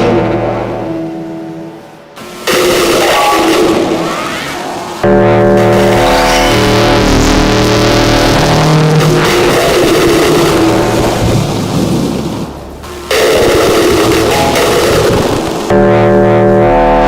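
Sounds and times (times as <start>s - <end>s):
harsh noisy synth texture: 0.0s - 17.0s
synthesizer droning tones: 0.0s - 17.0s.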